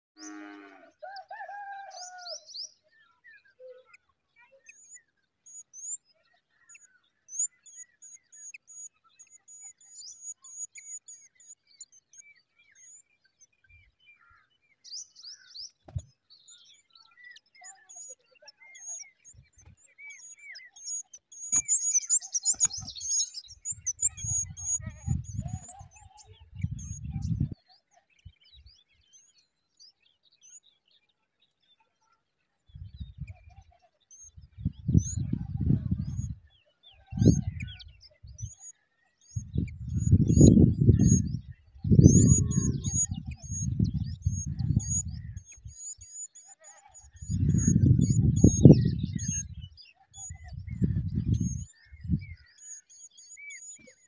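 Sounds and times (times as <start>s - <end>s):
small birds chirping: 0.2s - 54.0s.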